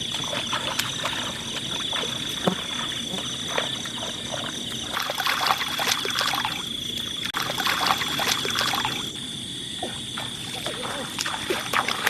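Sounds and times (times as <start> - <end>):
small splashes: 0.0 - 9.2, 9.8 - 12.0
insect chorus drone: 0.0 - 12.0
water sloshing and trickling: 0.0 - 12.0.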